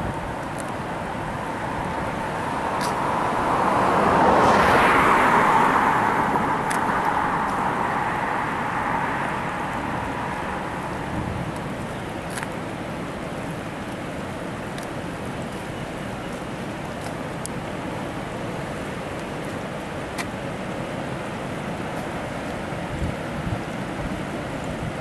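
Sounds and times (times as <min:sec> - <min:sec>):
water rushing over dam: 0:00.0 - 0:25.0.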